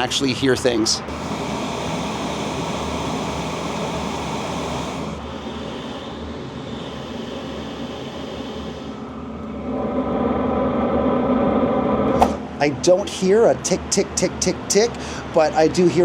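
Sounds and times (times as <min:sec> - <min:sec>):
heater fan blowing: 0:00.0 - 0:16.0.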